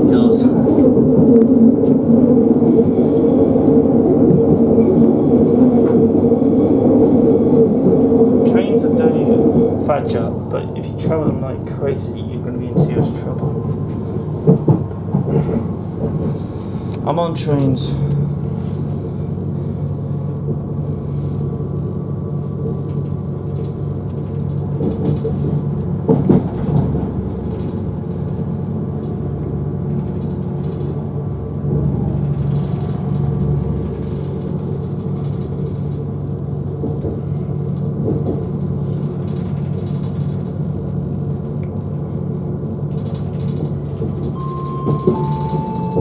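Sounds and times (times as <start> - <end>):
diesel engine drone: 0.0 - 46.0
diesel train rumbling at speed: 0.0 - 46.0.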